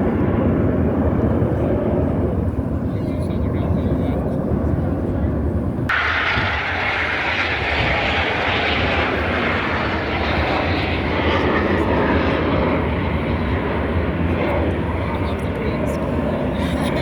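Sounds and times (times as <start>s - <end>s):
aircraft engine flying past: 0.0s - 17.0s.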